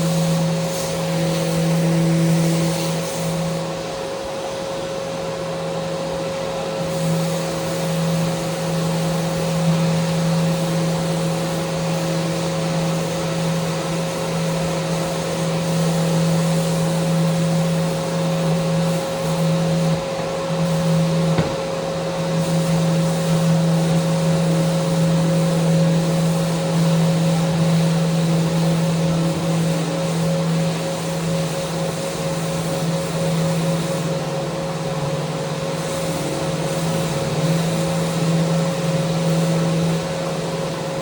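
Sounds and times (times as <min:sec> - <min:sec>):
power sander on wood: 0:00.0 - 0:03.7, 0:07.0 - 0:41.0.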